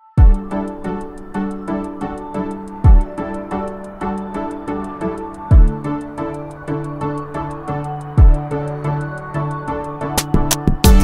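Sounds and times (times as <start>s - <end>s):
plucked melody over ticking beat: 0.2s - 11.0s.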